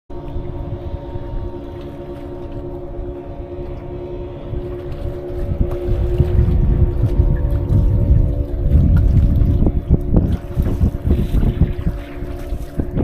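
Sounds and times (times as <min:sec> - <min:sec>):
boat motor droning: 0:00.1 - 0:13.0
wind buffeting microphone: 0:00.1 - 0:13.0.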